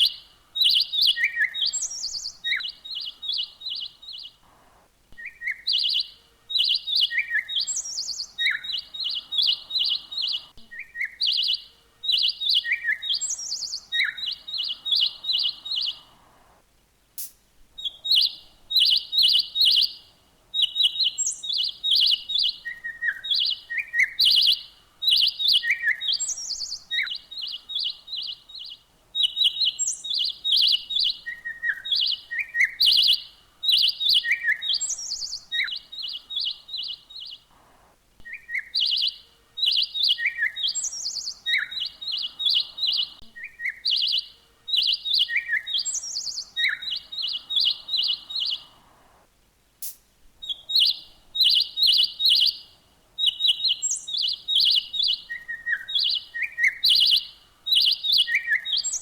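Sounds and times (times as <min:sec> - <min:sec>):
falling bird calls: 0:00.0 - 0:16.7, 0:17.7 - 0:49.3, 0:50.4 - 0:59.0
small birds chirping: 0:00.0 - 0:59.0.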